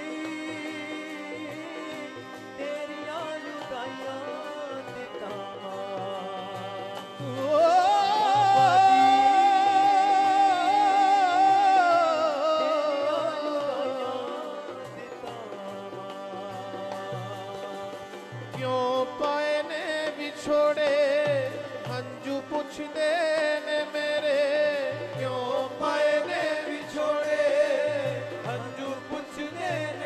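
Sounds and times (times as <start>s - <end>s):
devotional music singing: 0.0s - 30.0s.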